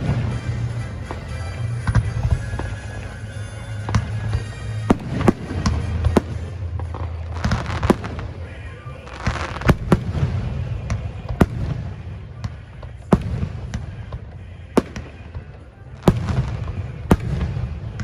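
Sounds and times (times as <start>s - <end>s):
fireworks fizzing crackle: 0.0s - 15.5s
fireworks bangs: 0.0s - 18.0s.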